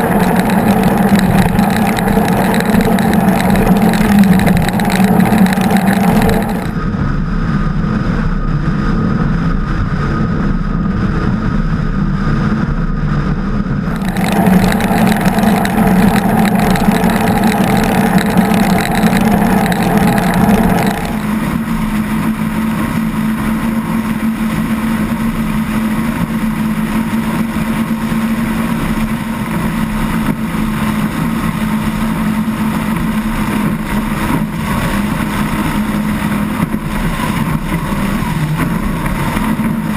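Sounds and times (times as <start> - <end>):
rushing water noise: 0.0 - 6.8, 13.8 - 39.9
powerboat engines running: 0.0 - 39.9.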